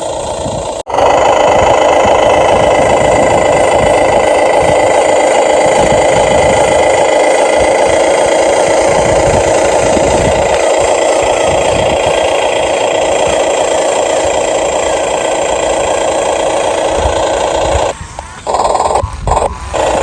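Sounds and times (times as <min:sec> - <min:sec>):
model vehicle motors whirring: 0:00.0 - 0:20.0.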